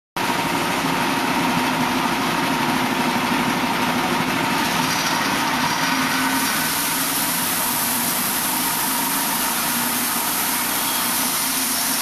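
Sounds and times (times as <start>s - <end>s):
sawmill engine running: 0.2s - 12.0s.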